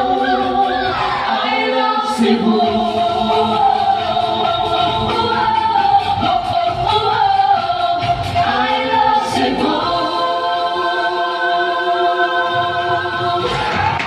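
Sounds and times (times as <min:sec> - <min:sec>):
backing music: 0:00.0 - 0:14.0
group singing in harmony: 0:00.0 - 0:14.0.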